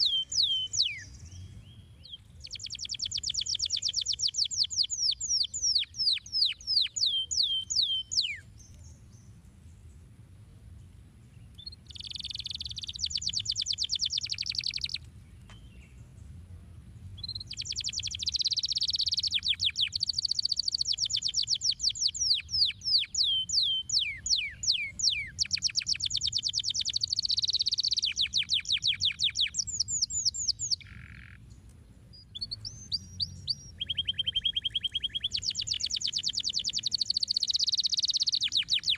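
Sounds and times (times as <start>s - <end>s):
canary singing trills: 0.0s - 9.4s, 11.4s - 16.0s, 17.2s - 31.5s, 32.1s - 38.9s.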